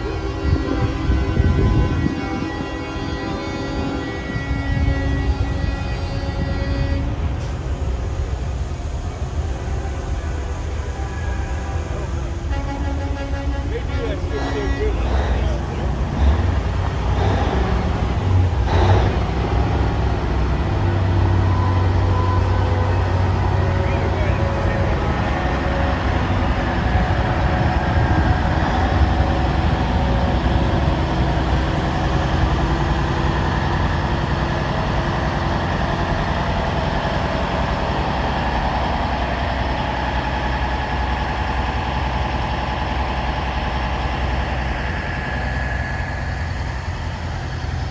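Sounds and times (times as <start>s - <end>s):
vehicle engines idling: 0.0s - 47.9s.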